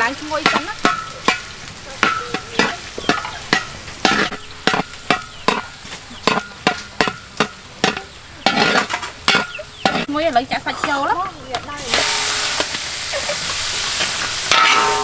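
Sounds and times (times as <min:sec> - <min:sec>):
garlic sizzling in hot oil: 0:00.0 - 0:15.0
steel spatula scraping a wok: 0:00.0 - 0:15.0.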